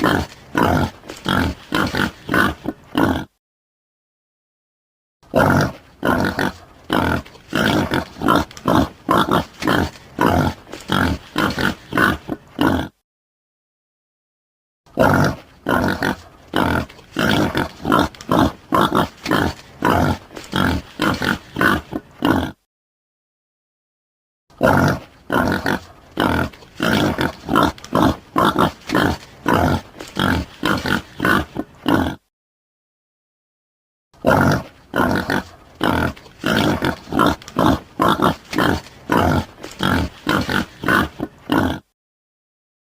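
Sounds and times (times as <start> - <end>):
boar grunting: 0.0 - 3.4, 5.2 - 13.0, 14.9 - 22.6, 24.5 - 32.3, 34.2 - 42.0.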